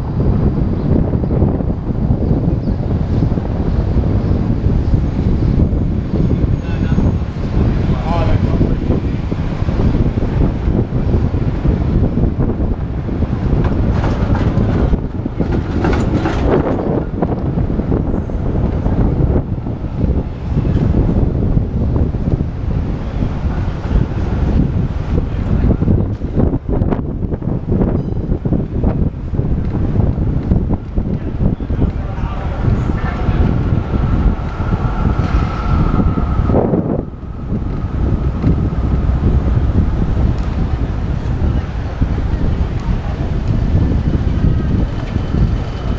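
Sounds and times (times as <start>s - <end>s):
city street traffic: 0.0s - 45.9s
tram running: 0.0s - 45.9s
wind rumbling on microphone: 0.0s - 45.9s.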